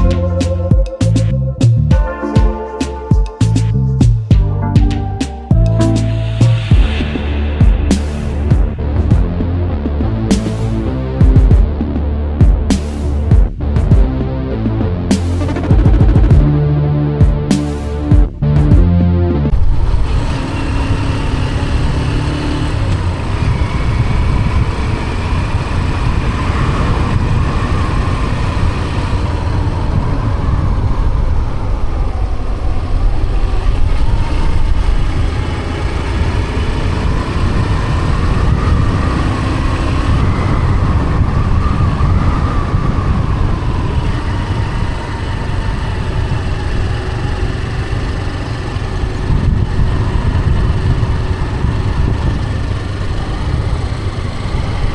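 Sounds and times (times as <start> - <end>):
vehicle engine and road rumble: 0.0 - 1.9, 2.6 - 54.9
rising and falling whine: 0.0 - 12.2, 13.0 - 54.9.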